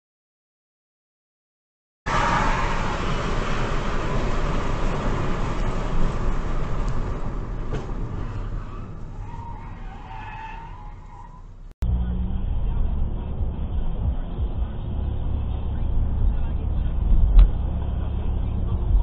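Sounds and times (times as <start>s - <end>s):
car road and tyre noise: 2.1s - 19.0s.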